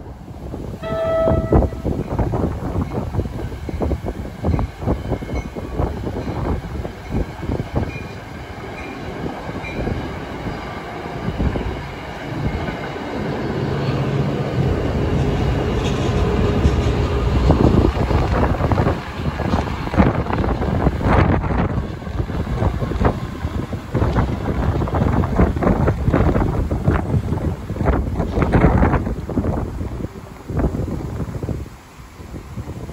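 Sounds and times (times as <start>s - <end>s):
train low drone: 0.0s - 32.9s
train wheels clicking over rail joints: 1.8s - 31.3s.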